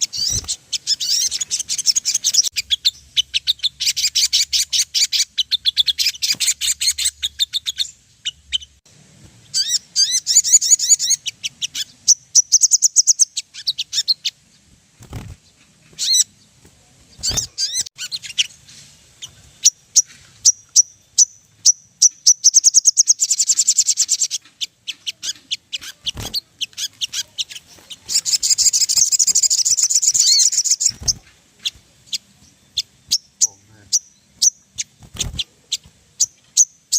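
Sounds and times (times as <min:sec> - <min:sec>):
sunbird chittering trills: 0:00.0 - 0:08.8, 0:09.4 - 0:14.7, 0:15.4 - 0:16.6, 0:17.2 - 0:36.9.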